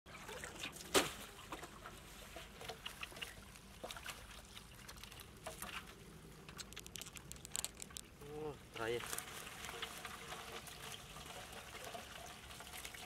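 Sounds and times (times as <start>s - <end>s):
small splashes and clicks: 0.3s - 13.0s.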